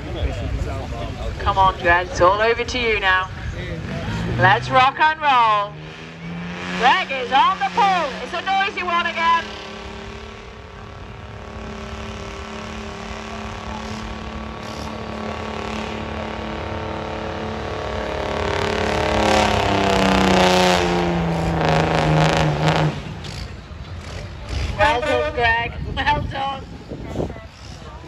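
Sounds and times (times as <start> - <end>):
diesel lorry engine running hard: 0.0 - 28.0.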